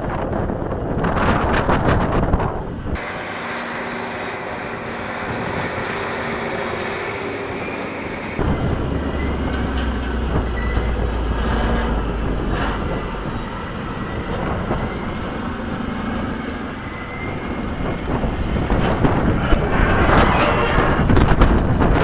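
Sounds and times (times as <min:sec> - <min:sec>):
wind noise: 0:00.0 - 0:03.1, 0:04.2 - 0:22.0
heavy machinery rumbling: 0:00.0 - 0:22.0.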